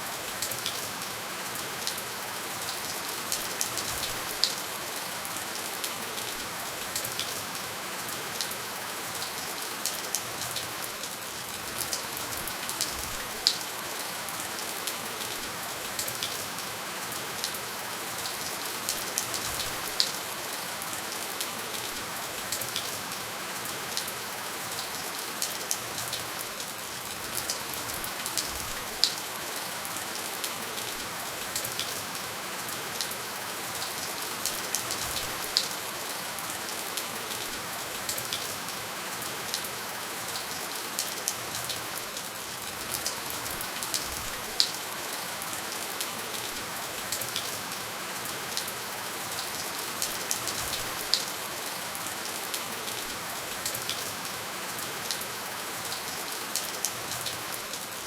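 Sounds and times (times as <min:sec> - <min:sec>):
gentle rain hiss: 0:00.0 - 0:58.0
raindrops ticking on a surface: 0:00.0 - 0:58.0.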